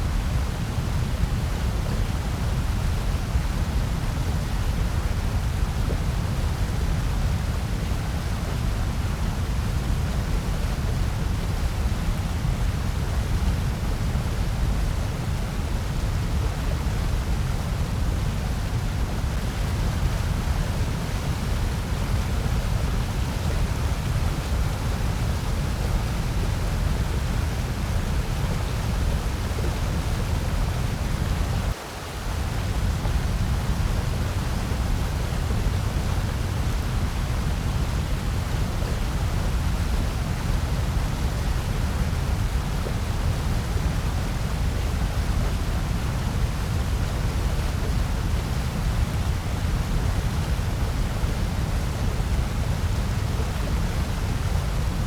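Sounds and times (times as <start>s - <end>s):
low-heavy white noise: 0.0s - 55.0s.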